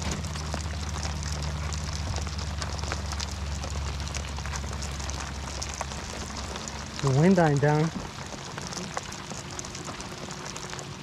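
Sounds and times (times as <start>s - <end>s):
low steady hum: 0.0s - 11.0s
rain pattering: 0.0s - 11.0s.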